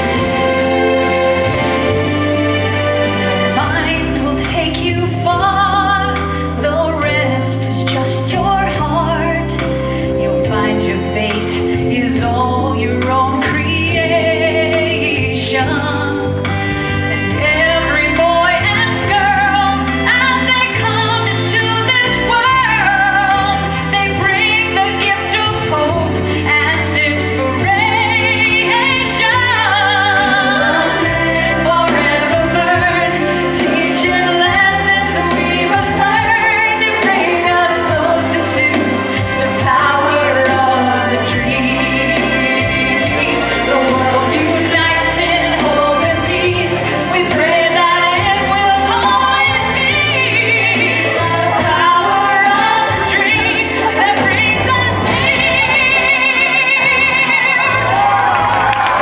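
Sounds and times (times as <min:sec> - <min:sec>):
instrumental accompaniment with bass: 0:00.0 - 0:59.0
woman singing into microphone: 0:03.4 - 0:59.0.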